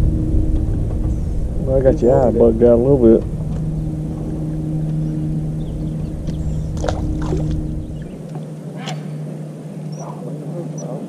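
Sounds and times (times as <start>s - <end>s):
electric trolling motor humming: 0.0s - 11.0s.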